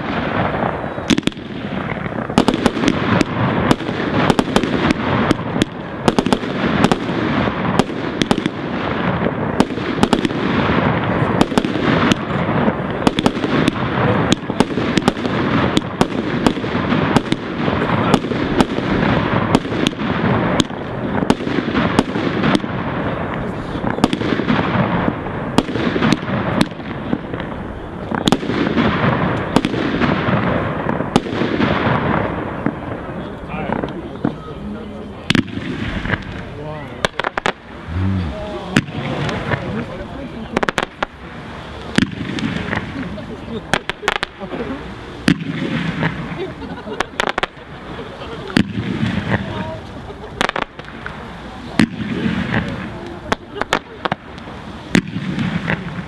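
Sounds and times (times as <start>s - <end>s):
continuous wash of sound: 0.0s - 56.0s
fireworks bursting: 0.0s - 56.0s.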